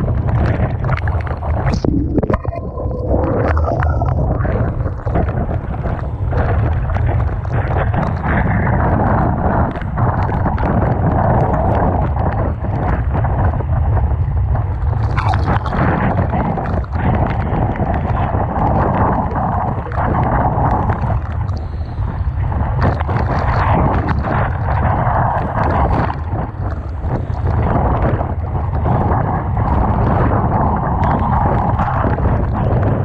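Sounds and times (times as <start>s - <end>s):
rough surging seawater: 0.0s - 33.0s
wind buffeting microphone: 0.0s - 33.0s.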